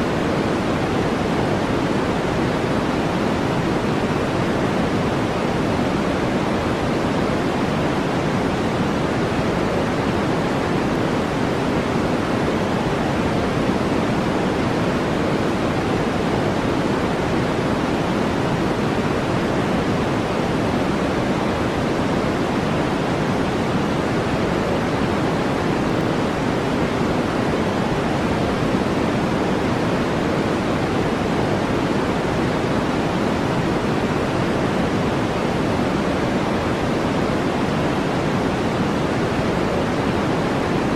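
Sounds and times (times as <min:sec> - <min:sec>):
steady artificial noise: 0:00.0 - 0:40.9.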